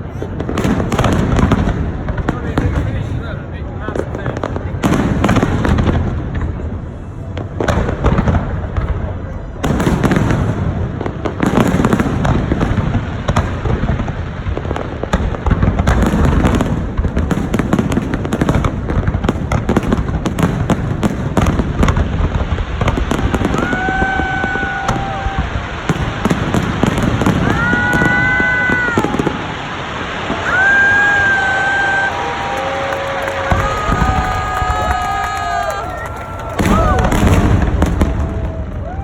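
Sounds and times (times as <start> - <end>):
fireworks crackling: 0.0 - 39.0.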